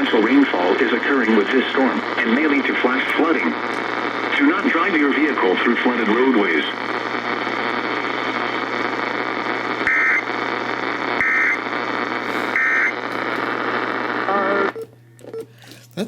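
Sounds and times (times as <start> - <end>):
radio static hiss: 0.0 - 14.8.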